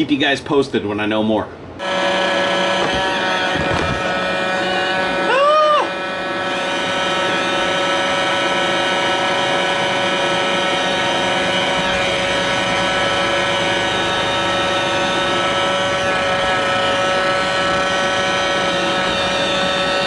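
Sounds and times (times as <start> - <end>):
robot vacuum running: 1.8 - 20.0.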